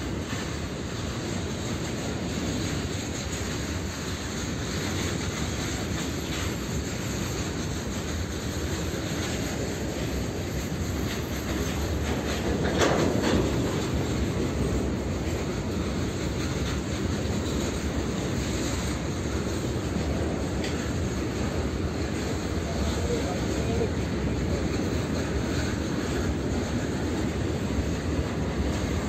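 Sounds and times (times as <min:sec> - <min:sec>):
freight train wheels clattering: 0:00.0 - 0:29.0.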